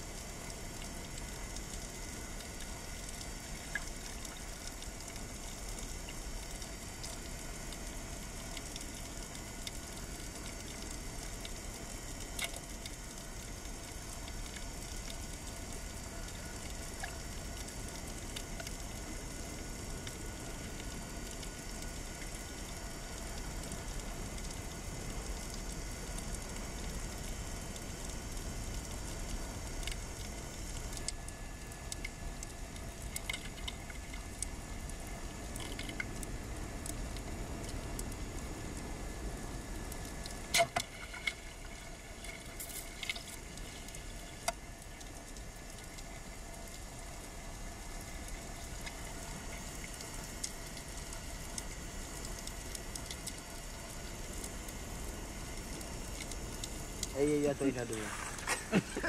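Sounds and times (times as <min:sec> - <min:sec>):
faint steady tone: 0:00.0 - 0:59.0.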